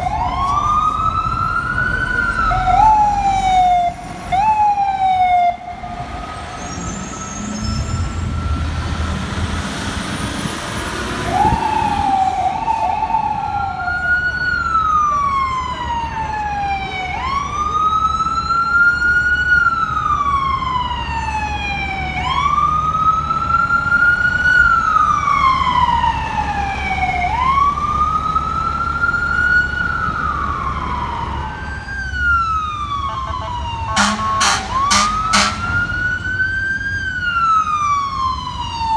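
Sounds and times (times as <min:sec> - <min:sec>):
ambulance siren wailing: 0:00.0 - 0:38.9
lower-pitched siren sweep: 0:00.0 - 0:38.9.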